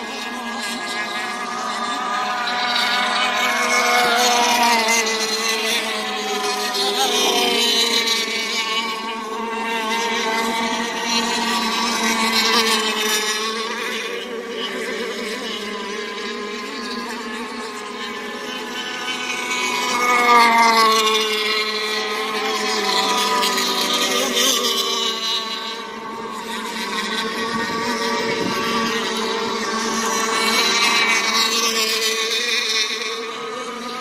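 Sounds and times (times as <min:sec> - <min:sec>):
racing boat engines whining: 0:00.0 - 0:34.0.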